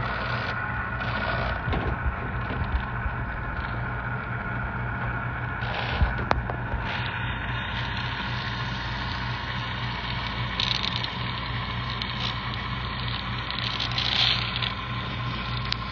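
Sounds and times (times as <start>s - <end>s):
machine humming: 0.0s - 15.9s.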